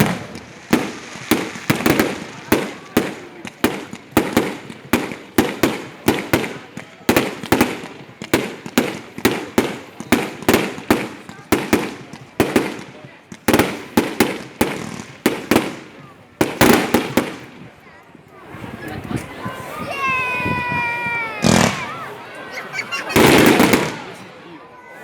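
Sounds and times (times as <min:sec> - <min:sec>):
fireworks bangs: 0:00.0 - 0:17.9, 0:20.1 - 0:22.2, 0:23.0 - 0:24.4.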